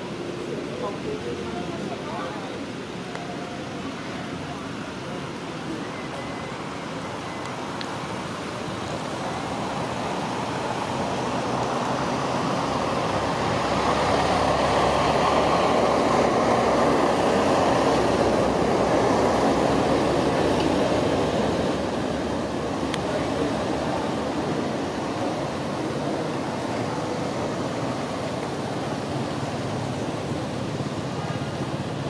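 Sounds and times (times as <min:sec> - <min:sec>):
rain hiss: 0:00.0 - 0:32.0.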